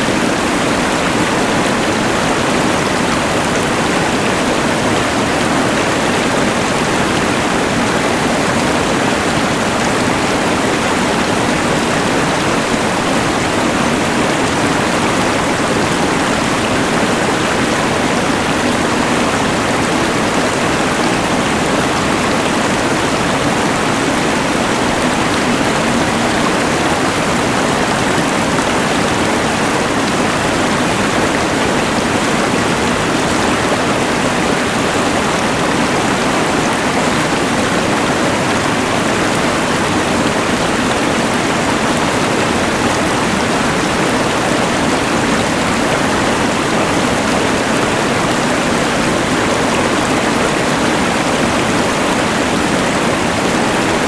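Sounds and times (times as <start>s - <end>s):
rushing river: 0.0s - 54.0s.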